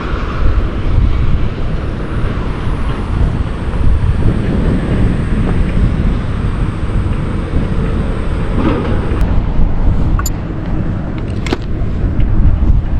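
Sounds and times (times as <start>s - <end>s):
motorcycle engine rumble: 0.0s - 12.9s
wind buffeting microphone: 0.0s - 12.9s.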